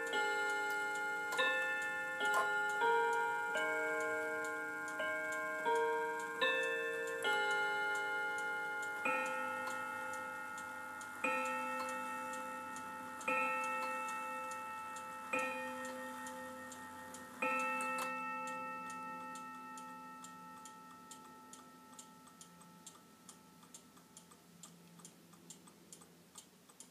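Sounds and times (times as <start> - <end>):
clock chime tune: 0.0 - 24.3
clock striking low tones: 0.0 - 26.9
clock ticking: 0.0 - 26.9.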